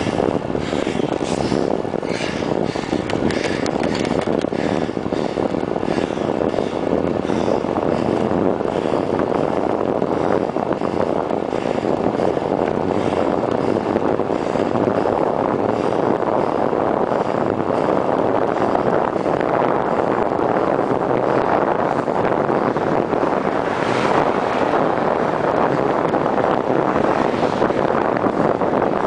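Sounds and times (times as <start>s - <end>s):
tyre rumble on road: 0.0s - 29.0s
wind noise on microphone: 0.0s - 29.0s.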